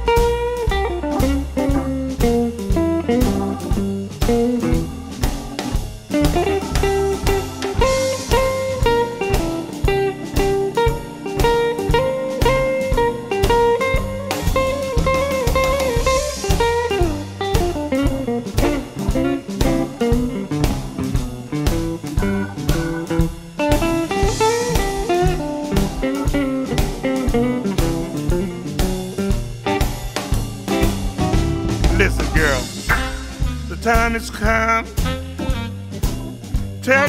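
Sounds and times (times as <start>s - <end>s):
bass: 0.0s - 37.0s
drum kit beat: 0.0s - 37.0s
electric guitar melody: 0.0s - 37.0s.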